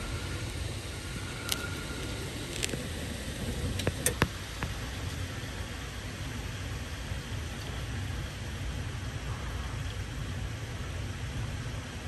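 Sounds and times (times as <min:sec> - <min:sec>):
low rumble: 0:00.0 - 0:11.8
heavy rain pouring: 0:00.0 - 0:12.0.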